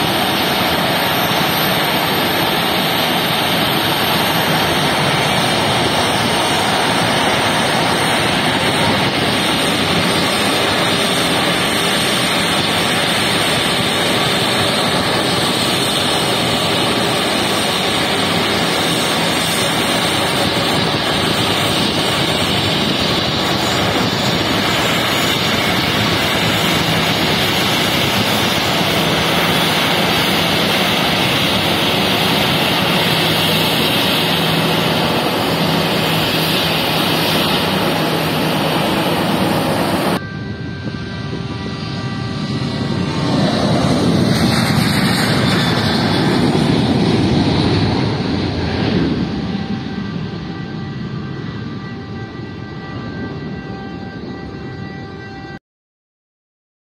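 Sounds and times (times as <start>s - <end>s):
jet engines whining: 0.0s - 55.6s.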